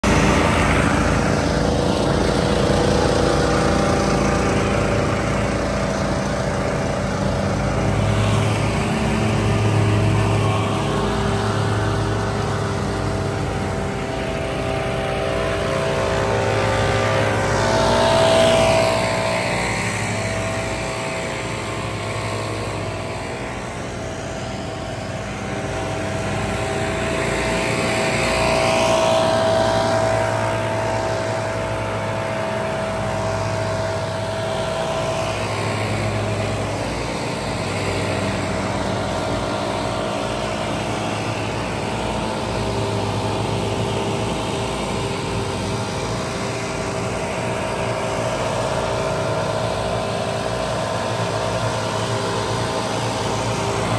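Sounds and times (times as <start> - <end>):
small gas engines running: 0.0 - 53.9.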